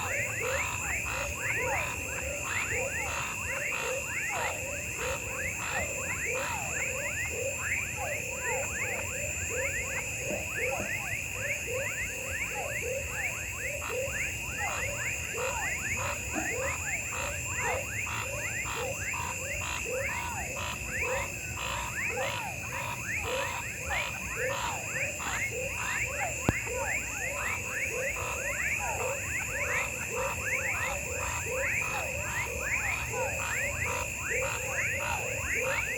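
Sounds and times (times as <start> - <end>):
frogs calling: 0.0 - 35.9.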